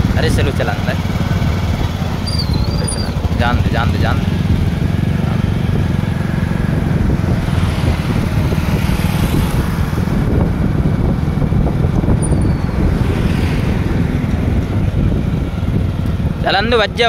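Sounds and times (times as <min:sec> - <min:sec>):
vehicle engine droning: 0:00.0 - 0:17.0
wind rushing over microphone: 0:00.0 - 0:17.0.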